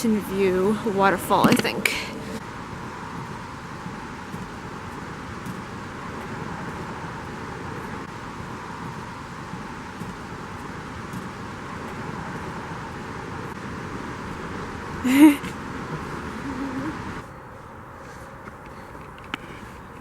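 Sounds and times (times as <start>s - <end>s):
waterfall rushing: 0.0s - 17.2s.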